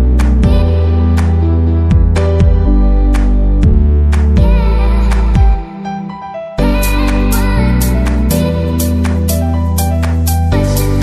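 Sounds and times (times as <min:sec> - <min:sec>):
calm instrumental music: 0:00.0 - 0:11.0.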